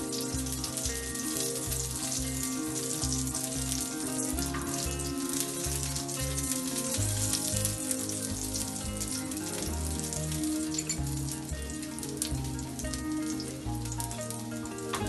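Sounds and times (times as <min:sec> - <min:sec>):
background music: 0:00.0 - 0:15.0
patties sizzling in oil: 0:00.0 - 0:15.0.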